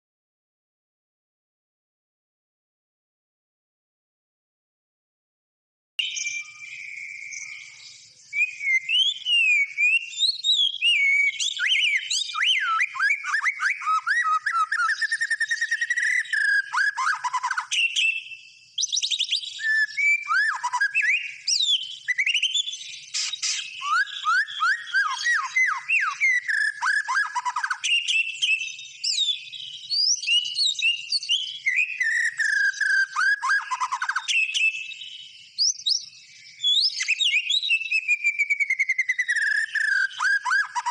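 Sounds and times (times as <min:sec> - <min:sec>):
bird singing whistles and trills: 0:06.0 - 0:40.9.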